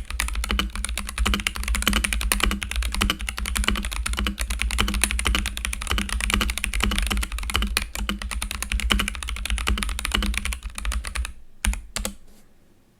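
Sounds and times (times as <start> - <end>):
mechanical keyboard typing: 0.0 - 12.2.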